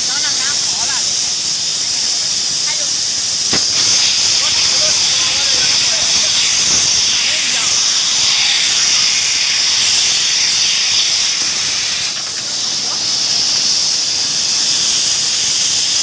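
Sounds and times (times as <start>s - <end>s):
thin high machine whine: 0.0s - 15.5s
machine air hiss: 0.0s - 16.0s.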